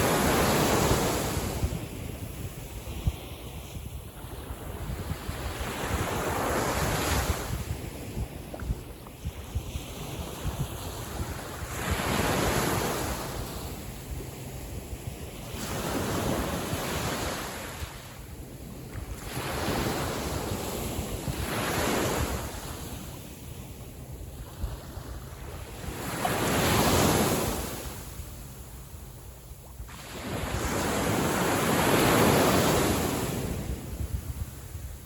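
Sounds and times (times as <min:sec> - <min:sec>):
sea waves breaking on beach: 0:00.0 - 0:28.6, 0:29.8 - 0:35.0
wind rumble on microphone: 0:00.0 - 0:35.0.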